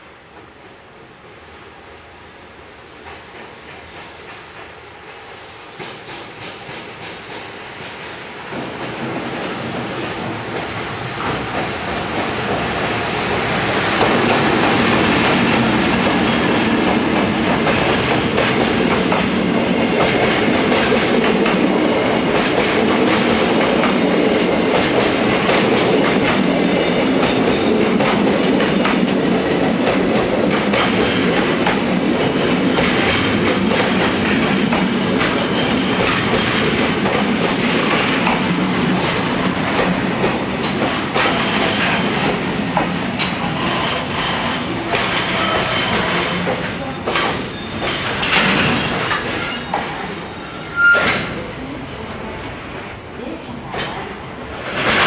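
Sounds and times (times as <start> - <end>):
electric locomotive passing: 0.0 - 55.0.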